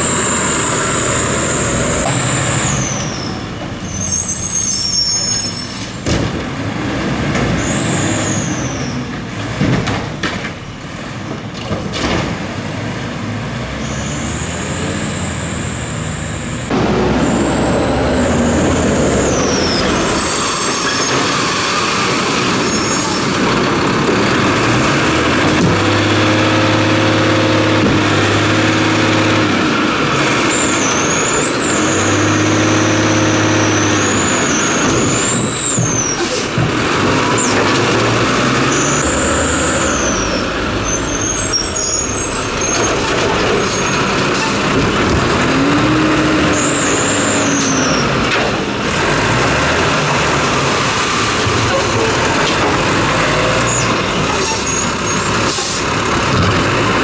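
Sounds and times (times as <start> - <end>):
garbage truck engine revving: 0.0 - 10.2, 10.8 - 57.0.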